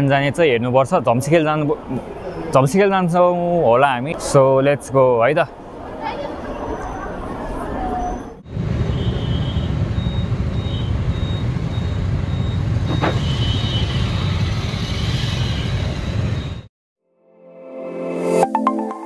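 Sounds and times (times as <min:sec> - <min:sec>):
traffic engines rumbling: 0:00.0 - 0:16.7.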